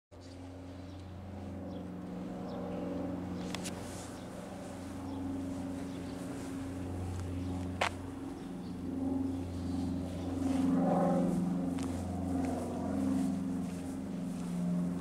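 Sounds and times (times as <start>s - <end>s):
low machine hum: 0.2s - 15.0s.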